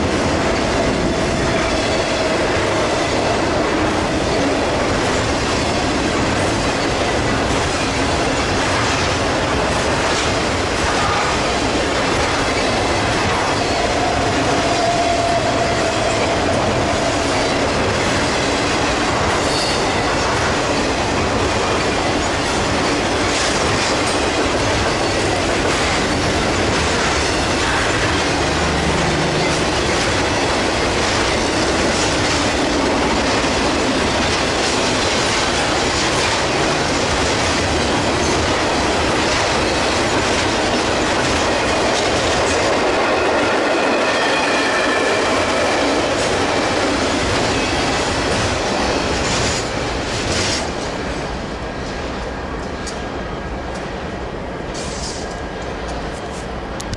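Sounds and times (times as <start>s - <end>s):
steel train wheels on rails: 0.0s - 56.9s.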